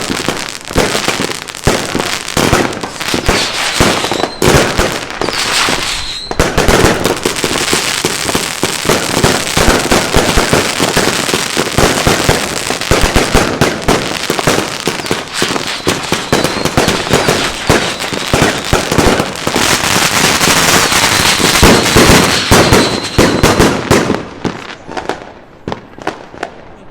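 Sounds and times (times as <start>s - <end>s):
firework cake firing shots: 1.6s - 19.6s, 20.2s - 24.2s.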